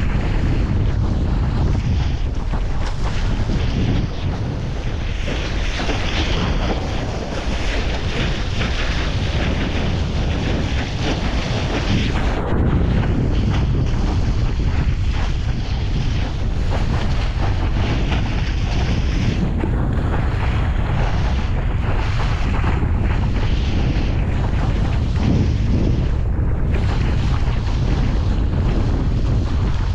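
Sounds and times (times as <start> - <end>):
water rushing and spraying: 0.0 - 29.9
wind buffeting microphone: 0.0 - 29.9.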